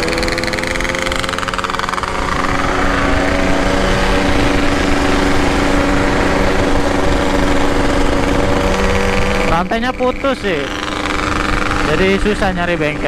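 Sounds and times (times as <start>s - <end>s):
low wind rumble: 0.0s - 13.0s
two-stroke motorcycle engine: 0.0s - 13.0s.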